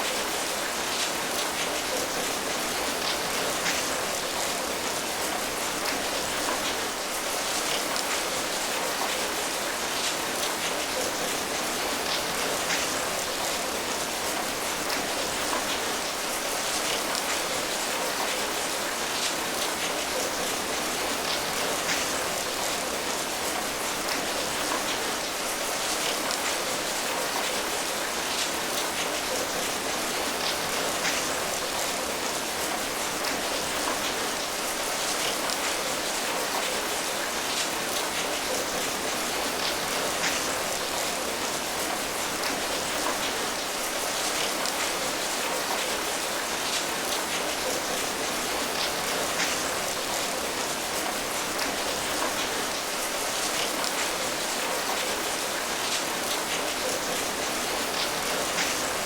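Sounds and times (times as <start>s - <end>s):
rain drops pattering: 0.0s - 59.0s.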